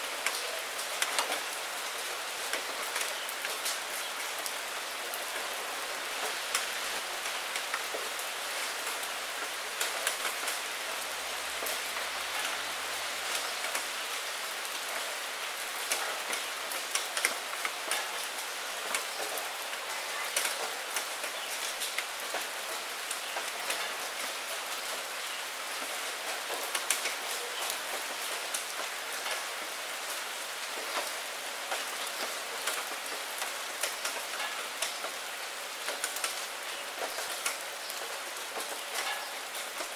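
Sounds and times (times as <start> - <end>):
rain falling on puddle and leaves: 0.0 - 39.9.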